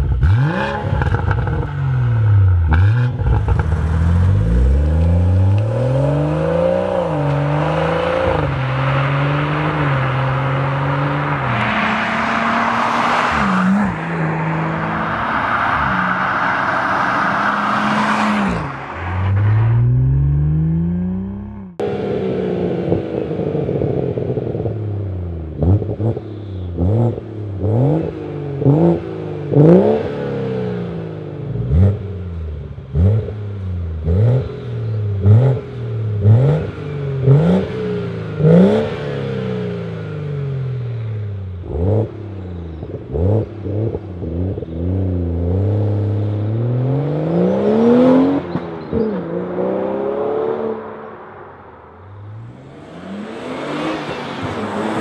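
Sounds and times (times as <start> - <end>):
car engine revving: 0.0 - 55.0
car passing and accelerating: 0.4 - 55.0.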